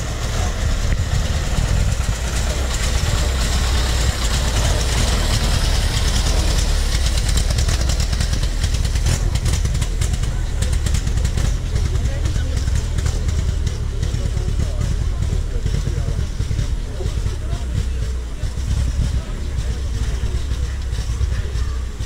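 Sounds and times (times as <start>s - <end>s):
truck engine passing slowly: 0.0s - 22.0s.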